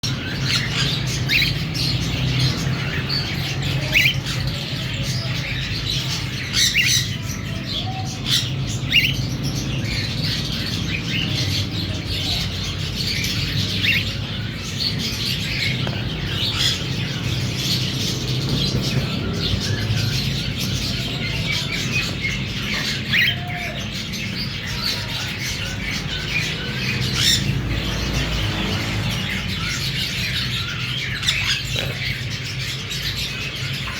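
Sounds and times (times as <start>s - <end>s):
cockatiels chirping: 0.0s - 33.9s
constant low hum: 0.0s - 33.9s.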